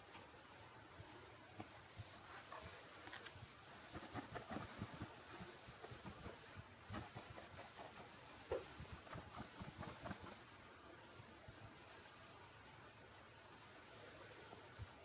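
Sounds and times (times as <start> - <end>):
faint rustling: 0.0 - 12.5.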